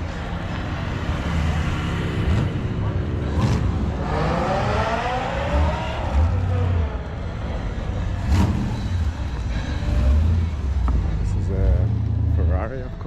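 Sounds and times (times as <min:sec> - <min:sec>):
low rumble of engines: 0:00.0 - 0:13.0
car engine revving: 0:00.8 - 0:12.9.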